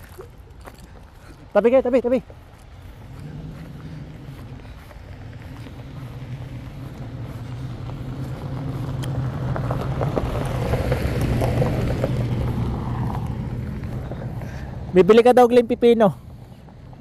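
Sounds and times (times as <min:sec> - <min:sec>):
tyres crackling over gravel: 0:00.0 - 0:15.3
truck engine hum: 0:00.0 - 0:17.0.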